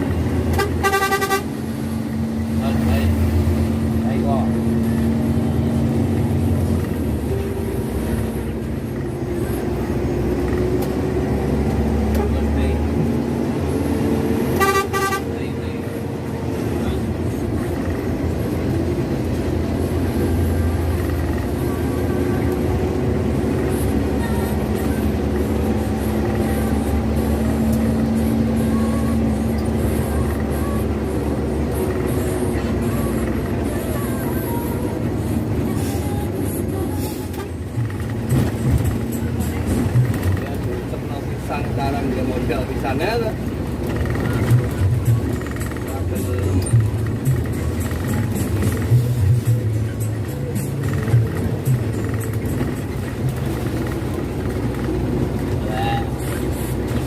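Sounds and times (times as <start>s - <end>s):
diesel bus engine drone: 0.0s - 57.0s
tyre and road noise: 0.0s - 57.0s.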